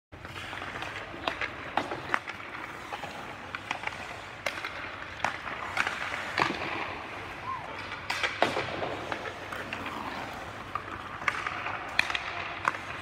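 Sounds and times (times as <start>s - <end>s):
hockey sticks and pucks clacking: 0.2s - 13.0s.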